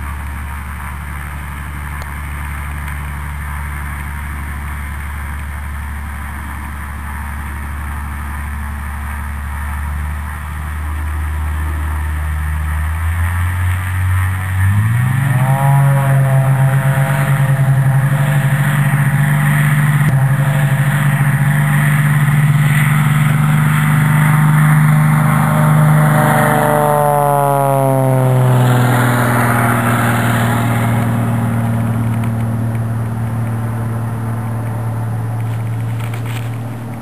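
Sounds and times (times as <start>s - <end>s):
propeller plane engine passing: 0.0s - 37.0s.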